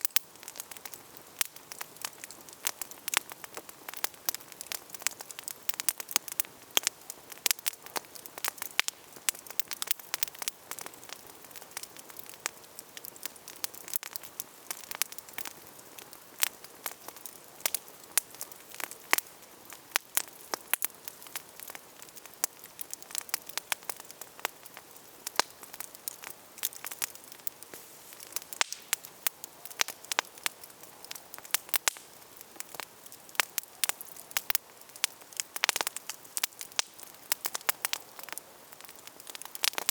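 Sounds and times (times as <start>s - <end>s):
campfire crackling and popping: 0.0s - 39.9s
soft fire hiss: 0.0s - 39.9s.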